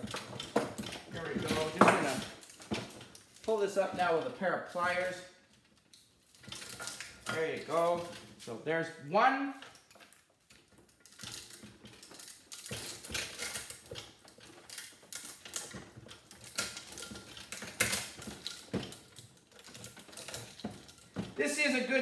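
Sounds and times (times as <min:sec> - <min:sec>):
metal clicking and scraping: 0:00.0 - 0:22.0.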